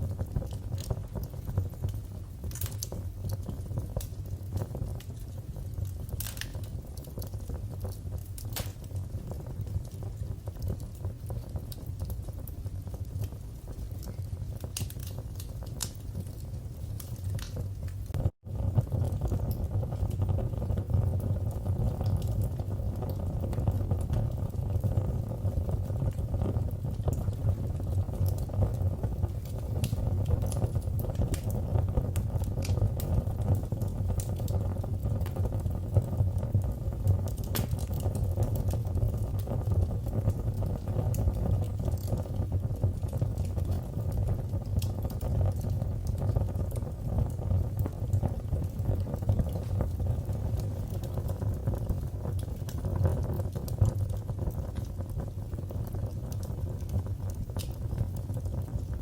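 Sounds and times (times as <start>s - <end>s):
fire crackling pops and snaps: 0.0s - 59.0s
fire flames rumbling: 0.0s - 59.0s.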